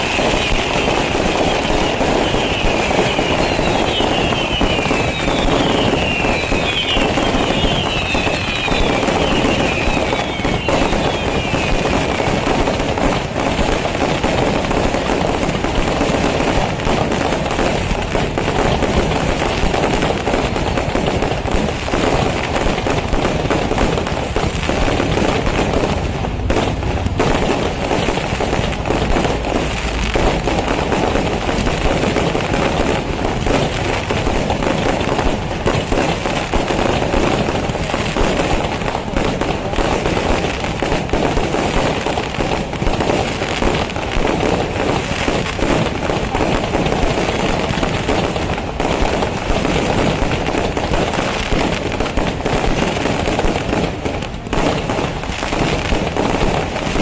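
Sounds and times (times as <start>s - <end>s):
falling firework whistles: 0.0s - 52.1s
firecrackers banging: 0.0s - 57.0s.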